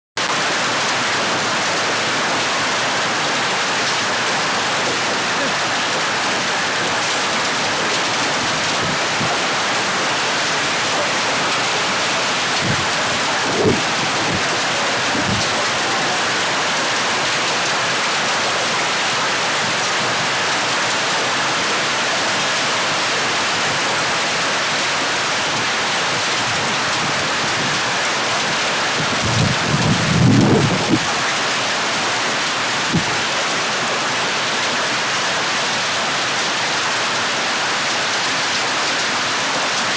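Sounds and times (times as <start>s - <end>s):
hail and heavy rain: 0.2s - 39.9s.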